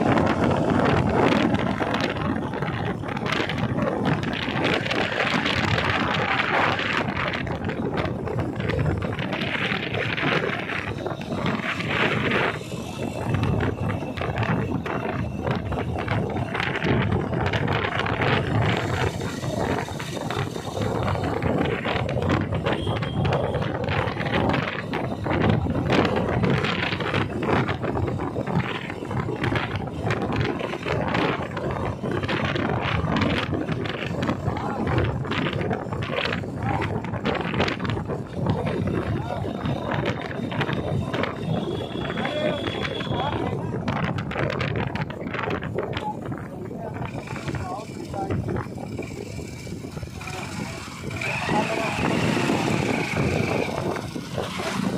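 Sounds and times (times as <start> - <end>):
vehicle road noise: 0.0 - 54.9
wind buffeting microphone: 0.0 - 54.9.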